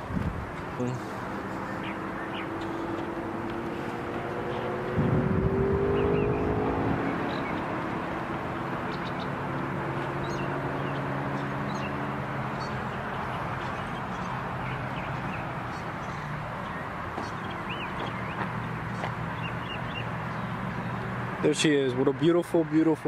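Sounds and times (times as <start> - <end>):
birds chirping: 0.0 - 22.4
car driving away: 1.0 - 21.4.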